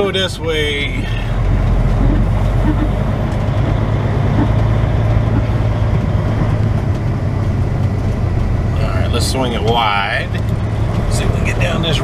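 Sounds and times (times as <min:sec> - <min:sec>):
road and cab noise: 0:00.0 - 0:12.0
truck diesel engine droning: 0:00.0 - 0:12.0.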